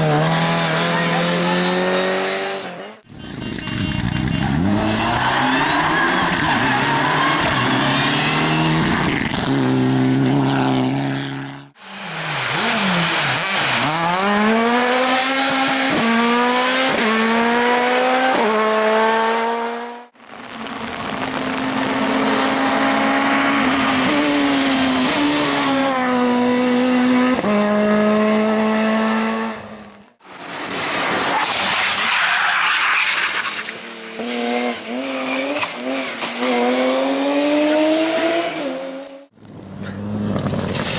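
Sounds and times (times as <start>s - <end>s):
race car engines at full throttle: 0.0s - 32.0s, 33.1s - 40.9s.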